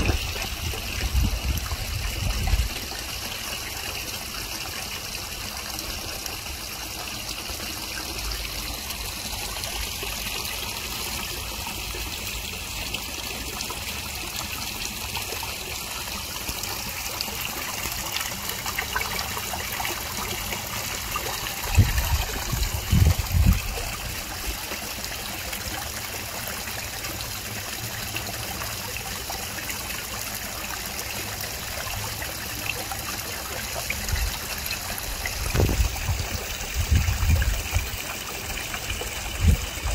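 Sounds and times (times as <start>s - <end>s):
waterfall splashing into pond: 0.0s - 39.9s.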